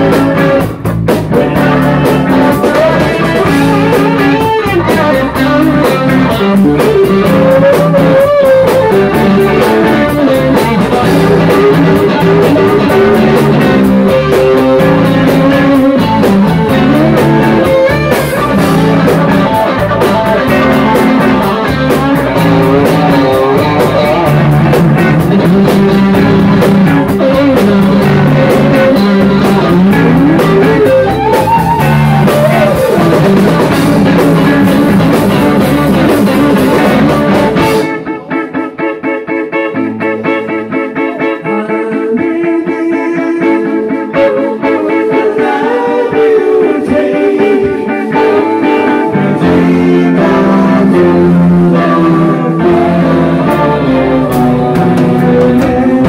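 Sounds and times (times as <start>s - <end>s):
drum kit: 0.0s - 41.7s, 43.4s - 56.0s
bass guitar: 0.0s - 56.0s
electric guitars playing lead lines: 0.0s - 56.0s.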